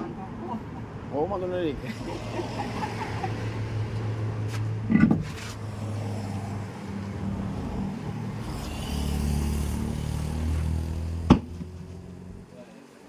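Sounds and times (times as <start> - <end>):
vehicle engine humming: 0.0 - 12.7.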